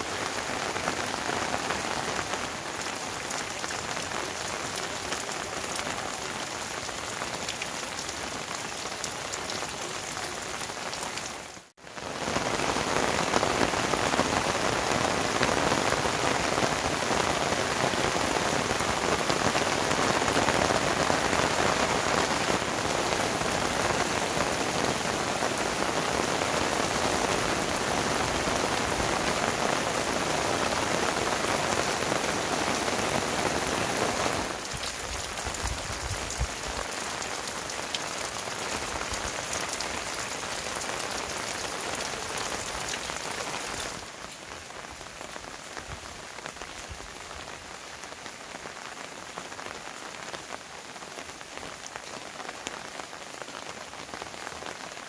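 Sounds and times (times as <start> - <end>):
heavy rain hissing: 0.0 - 47.2.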